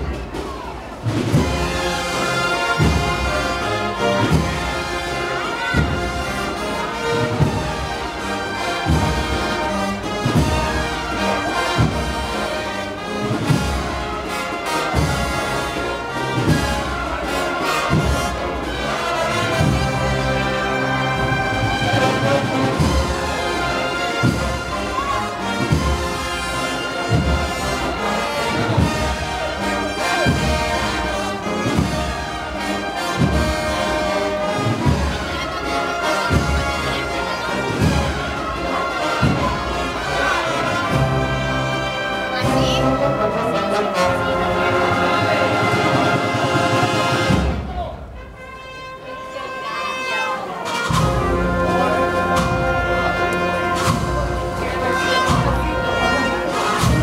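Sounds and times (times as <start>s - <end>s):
deep drum beat: 0.0s - 5.0s, 5.7s - 35.7s, 36.3s - 41.8s, 50.9s - 56.0s
brass band playing a march: 0.0s - 57.0s.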